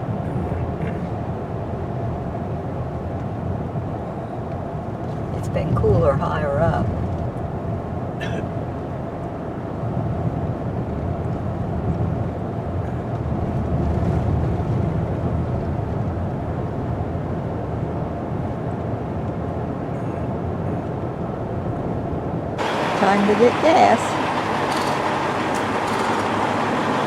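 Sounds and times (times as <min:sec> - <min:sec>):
faint constant hum: 0:00.0 - 0:27.0
vehicle road and engine rumble: 0:00.0 - 0:27.0.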